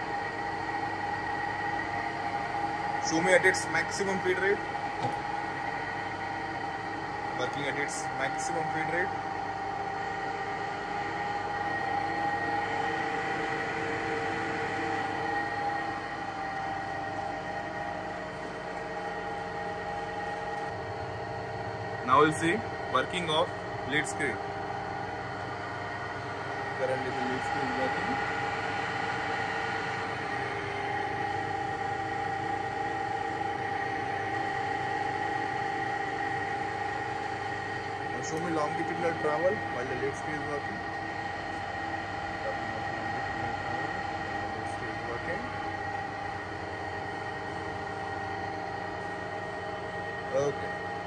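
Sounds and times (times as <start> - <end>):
lathe gear whine and hum: 0.0 - 51.0.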